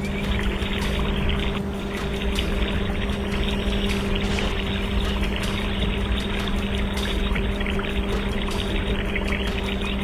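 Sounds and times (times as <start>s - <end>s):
mechanical drone: 0.0s - 10.0s.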